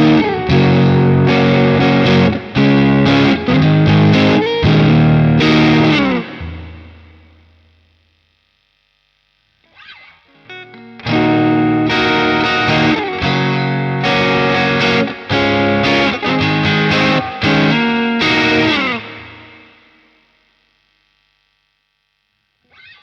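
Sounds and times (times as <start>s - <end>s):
overdriven electric guitar chords: 0.0s - 23.0s.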